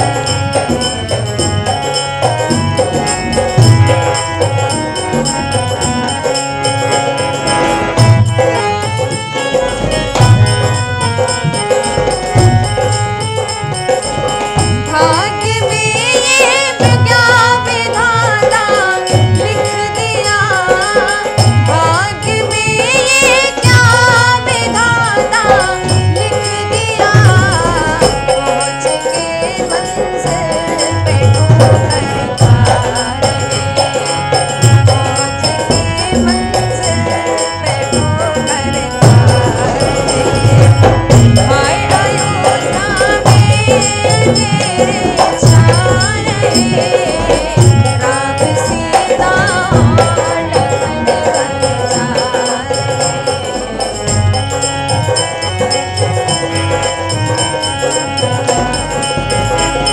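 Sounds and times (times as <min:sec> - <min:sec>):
hand drums rhythm: 0:00.0 - 0:59.9
harmonium held tones: 0:00.0 - 0:59.9
woman singing devotional song: 0:00.0 - 0:59.9.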